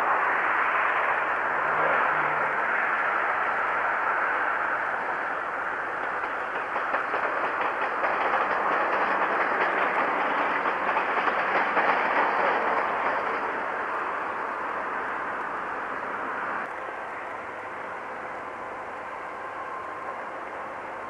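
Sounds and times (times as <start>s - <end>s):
train rushing rumble: 0.0s - 21.0s
faint clatter of wheels: 1.4s - 21.0s.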